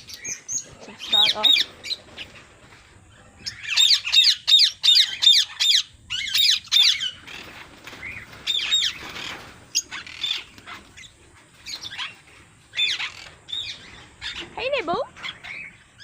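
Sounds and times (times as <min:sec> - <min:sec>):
pet birds squawking: 0:00.0 - 0:16.0.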